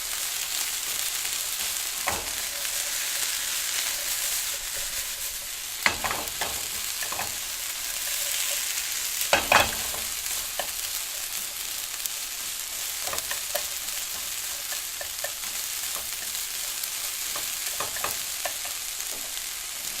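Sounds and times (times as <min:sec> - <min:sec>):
onions sizzling in a pan: 0:00.0 - 0:20.0
utensil scraping a pan: 0:00.5 - 0:20.0.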